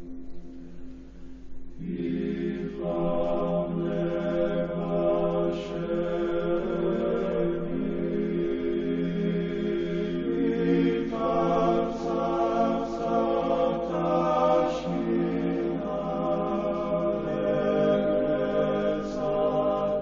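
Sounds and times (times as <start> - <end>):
choir singing a chant: 1.8 - 20.0.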